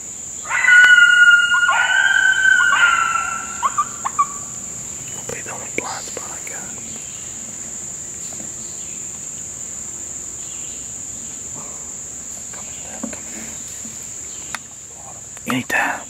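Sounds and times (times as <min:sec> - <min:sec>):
insects singing: 0:00.0 - 0:16.0.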